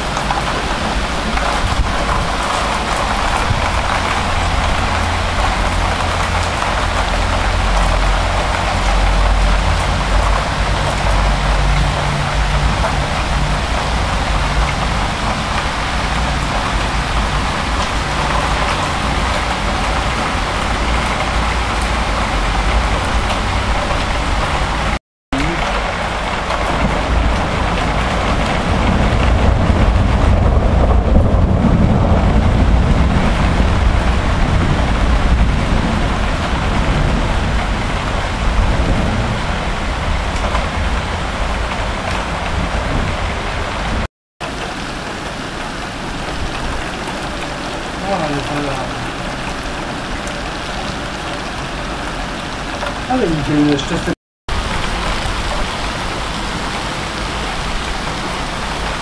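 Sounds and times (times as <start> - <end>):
deep thunder rumble: 0.0 - 59.0
heavy rain pouring: 0.0 - 59.0.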